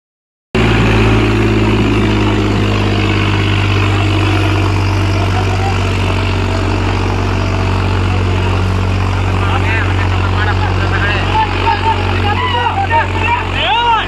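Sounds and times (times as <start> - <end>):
tractor diesel engine idling: 0.6 - 14.0.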